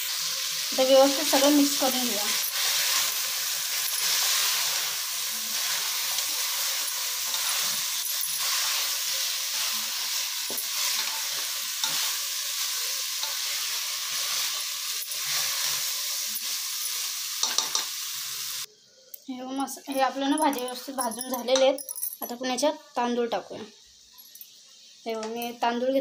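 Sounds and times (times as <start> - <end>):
vegetables sizzling in oil: 0.0 - 18.7, 22.4 - 26.0.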